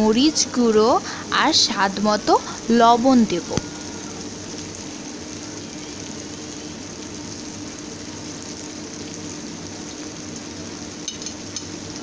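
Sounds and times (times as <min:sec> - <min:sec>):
faint steady hum: 0:00.0 - 0:12.0
vegetables frying in oil: 0:00.0 - 0:12.0.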